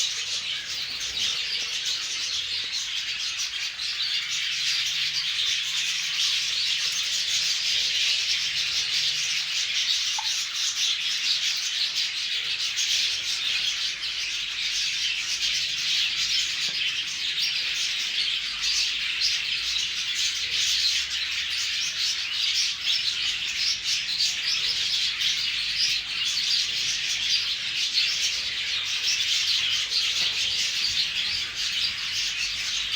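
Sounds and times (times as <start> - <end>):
birds chirping and chattering: 0.0 - 32.9.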